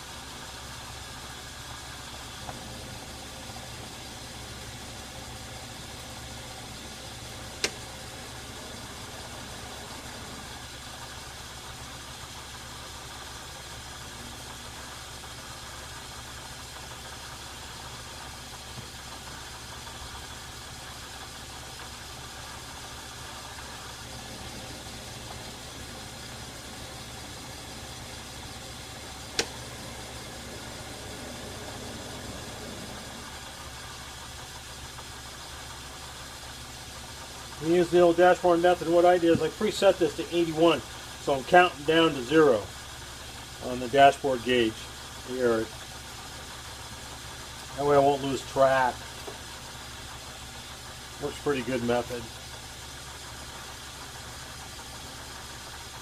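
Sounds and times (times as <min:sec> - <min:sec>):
metal lathe humming: 0:00.0 - 0:56.0.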